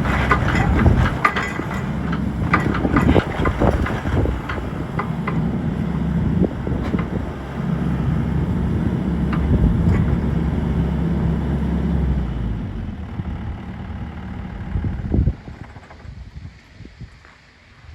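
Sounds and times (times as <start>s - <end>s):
excavator diesel engine running: 0.0s - 16.6s
wind: 0.0s - 17.9s.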